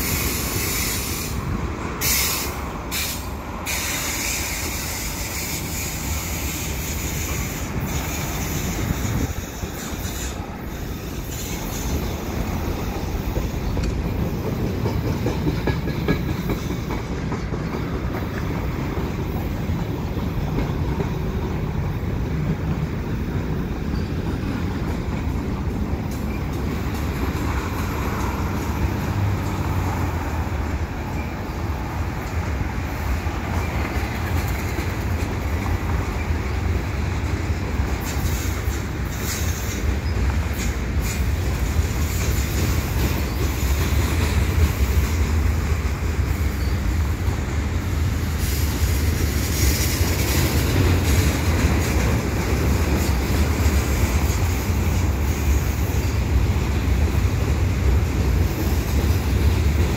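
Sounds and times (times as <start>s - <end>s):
train knocks: 0.0s - 59.9s
train wheels rumbling on rails: 0.0s - 59.9s.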